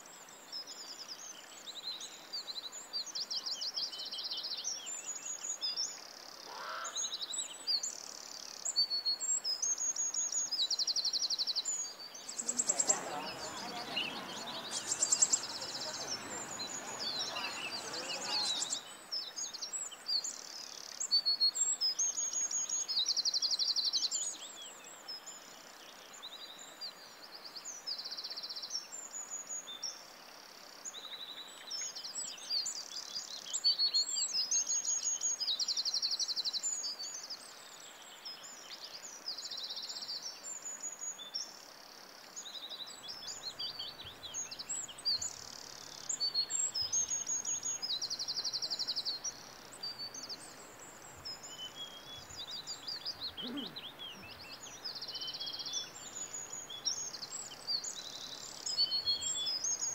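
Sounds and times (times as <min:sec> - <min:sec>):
faint background hiss: 0:00.0 - 0:59.9
songbird chirping and trilling: 0:00.0 - 0:59.9.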